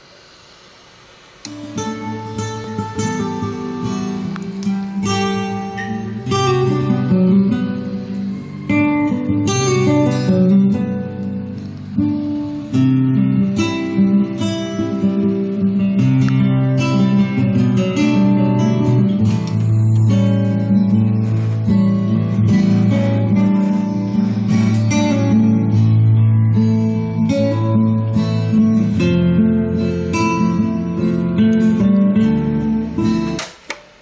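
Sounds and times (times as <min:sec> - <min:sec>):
strummed guitar music from speakers: 0:01.2 - 0:34.0.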